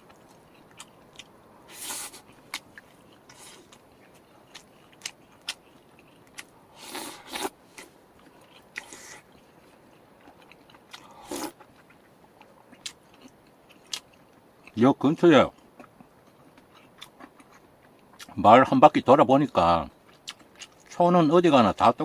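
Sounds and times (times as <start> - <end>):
person chewing crunchy food: 0.0 - 14.8, 15.5 - 18.4, 20.1 - 20.9.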